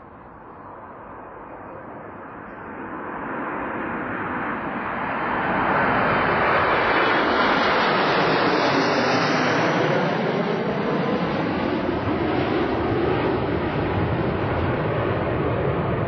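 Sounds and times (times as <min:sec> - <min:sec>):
jets flying over: 0:00.0 - 0:16.0.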